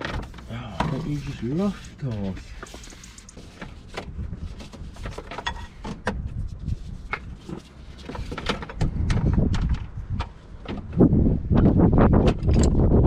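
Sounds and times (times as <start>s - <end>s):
low rumbling handling noise: 0.0s - 13.0s.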